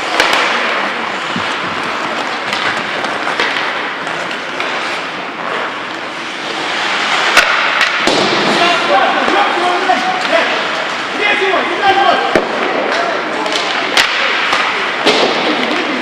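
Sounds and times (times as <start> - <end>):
hockey sticks and puck clacking: 0.0 - 16.0
skate blades scraping ice: 0.0 - 16.0.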